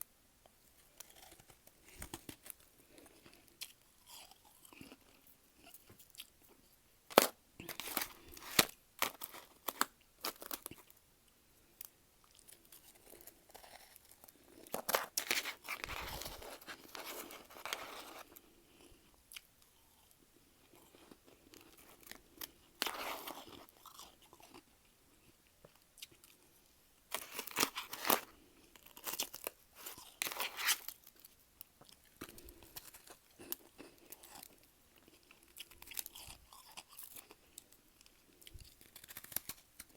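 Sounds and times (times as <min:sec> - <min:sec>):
frost being bitten and chewed: 0:00.8 - 0:11.0, 0:12.2 - 0:26.5, 0:27.1 - 0:39.9.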